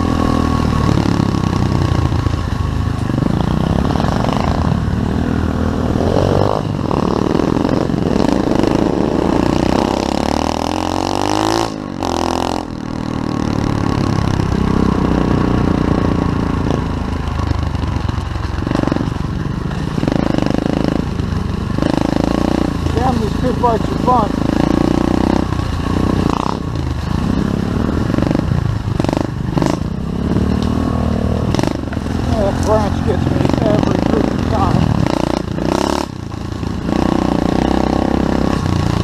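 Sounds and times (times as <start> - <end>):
pit bike engine revving: 0.0 - 39.0.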